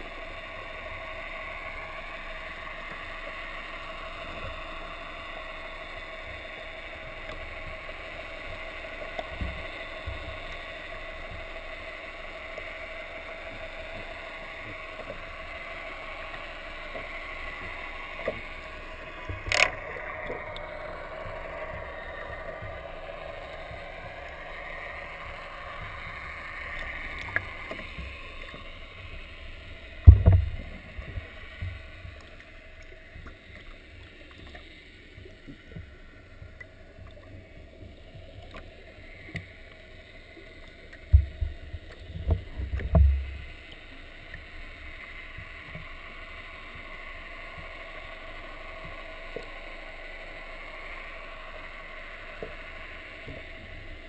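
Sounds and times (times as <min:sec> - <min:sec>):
underwater noise: 0:00.0 - 0:54.0.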